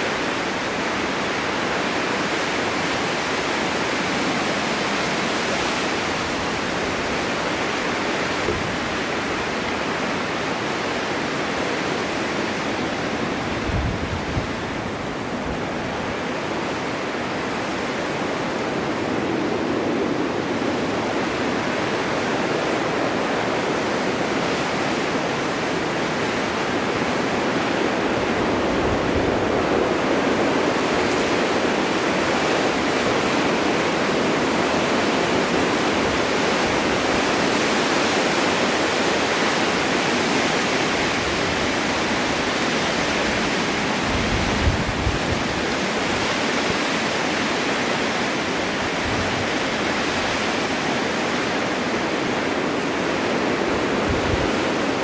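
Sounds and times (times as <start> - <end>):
snowstorm wind blowing: 0.0 - 55.0.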